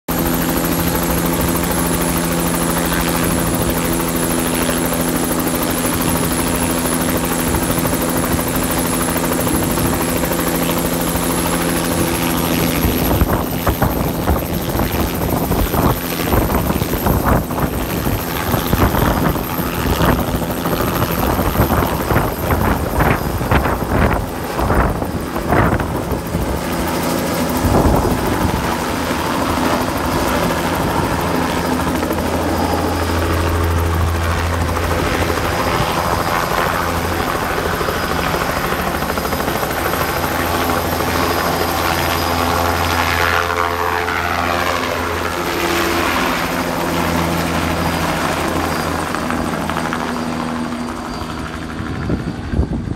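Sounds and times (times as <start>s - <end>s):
helicopter rotor: 0.1s - 52.9s.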